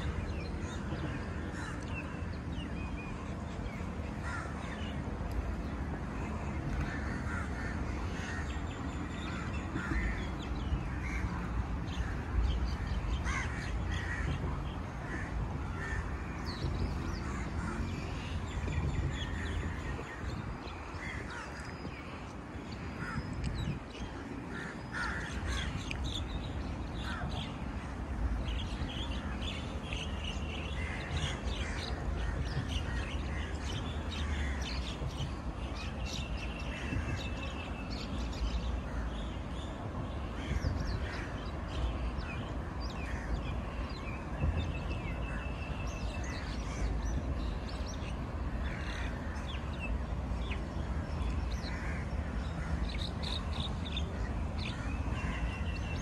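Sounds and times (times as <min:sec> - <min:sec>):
birds calling: 0:06.8 - 0:39.6, 0:40.2 - 0:56.0.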